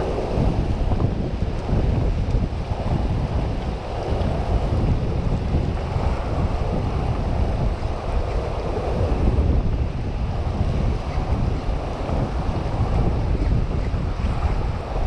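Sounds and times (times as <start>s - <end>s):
turbulent water rushing: 0.0s - 15.0s
wind buffeting microphone: 0.0s - 15.0s.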